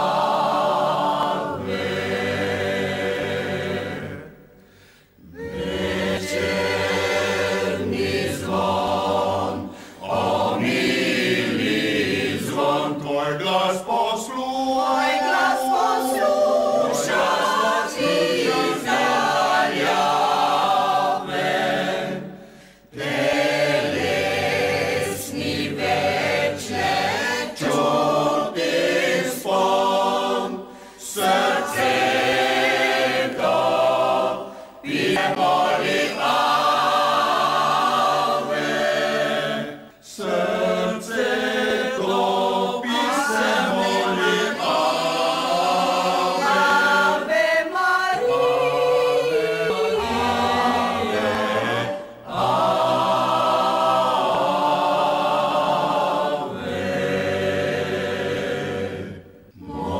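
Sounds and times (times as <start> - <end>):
mixed choir singing: 0.0 - 4.6, 5.2 - 59.9.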